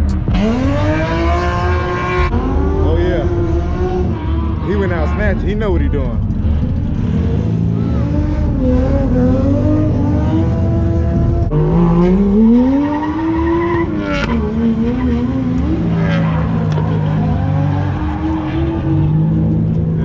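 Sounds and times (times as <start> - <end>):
car engine revving hard: 0.0 - 20.0.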